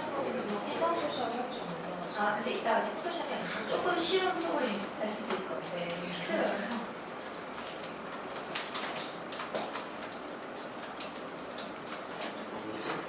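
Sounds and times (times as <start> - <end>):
computer keys and mouse clicks: 0.0 - 3.5, 4.1 - 10.2, 10.8 - 13.0
steady room hum: 0.0 - 13.0.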